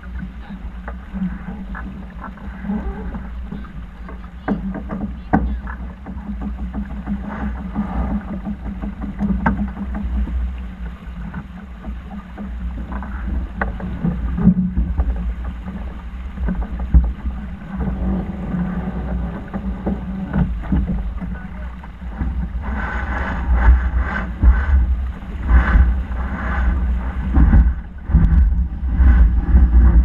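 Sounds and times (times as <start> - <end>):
low rumble of a yacht: 0.0 - 30.0.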